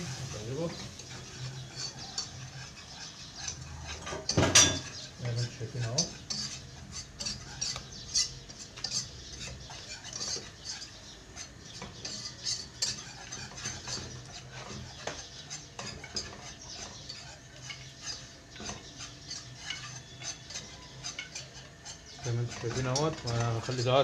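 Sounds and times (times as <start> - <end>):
whisk scraping a pot: 0.0 - 24.0.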